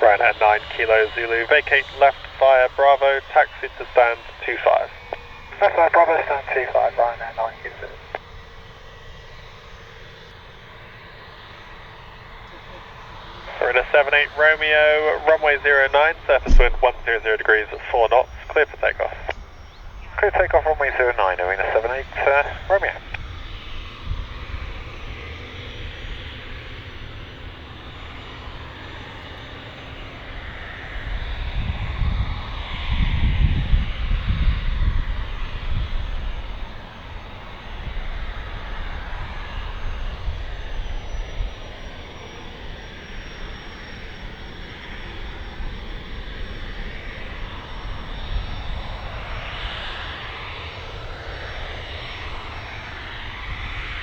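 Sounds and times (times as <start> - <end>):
aircraft engines at takeoff: 0.0 - 54.0.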